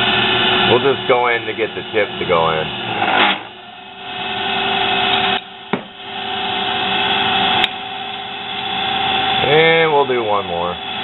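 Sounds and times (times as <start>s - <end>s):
drill bit cutting metal: 0.0s - 11.0s
drill press motor whine: 0.0s - 11.0s.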